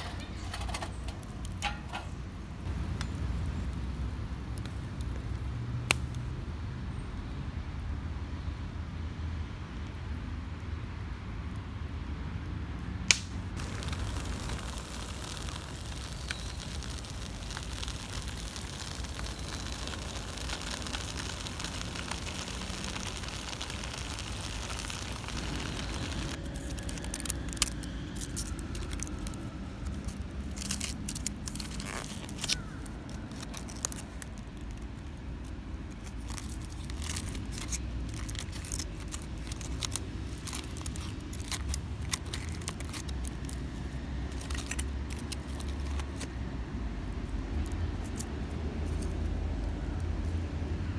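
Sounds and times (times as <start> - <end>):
campfire crackling: 0.0 - 6.6, 12.8 - 50.6
fire popping and snapping: 0.0 - 6.6, 12.8 - 50.5
low outdoor rumble: 0.0 - 6.8, 13.1 - 50.9.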